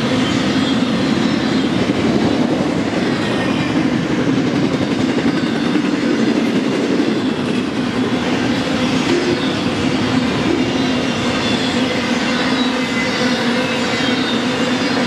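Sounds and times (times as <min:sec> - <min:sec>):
train wheels over rail joints: 0:00.0 - 0:15.0.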